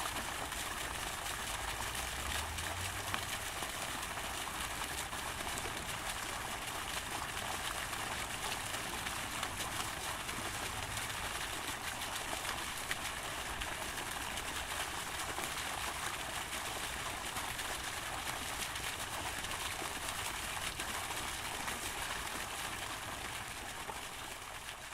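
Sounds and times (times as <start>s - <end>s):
fountain water splashing: 0.0s - 24.9s.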